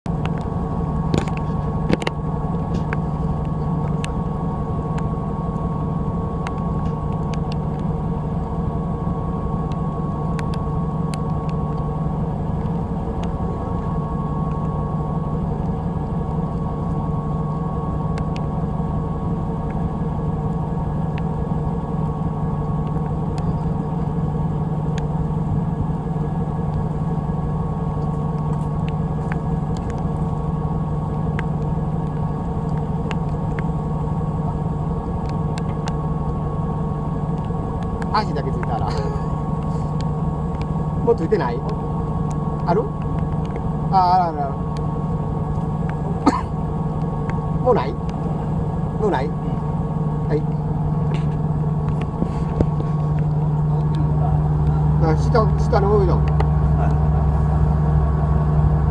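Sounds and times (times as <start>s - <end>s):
boat engine droning: 0.1s - 58.9s.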